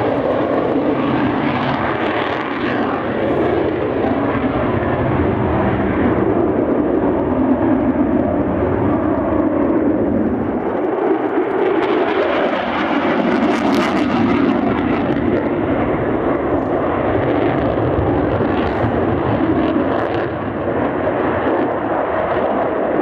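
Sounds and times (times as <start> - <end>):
military aircraft engines roaring: 0.0 - 23.0.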